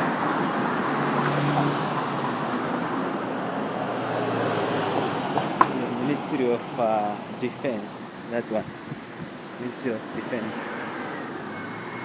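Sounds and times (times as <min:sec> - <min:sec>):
engine hum: 0:00.0 - 0:12.0
road traffic passing: 0:00.0 - 0:12.0.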